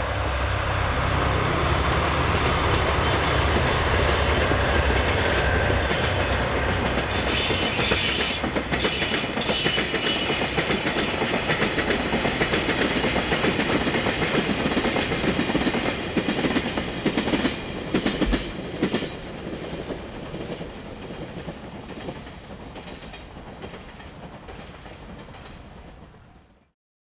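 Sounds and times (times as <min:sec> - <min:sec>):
freight train wheels clattering: 0:02.3 - 0:26.0.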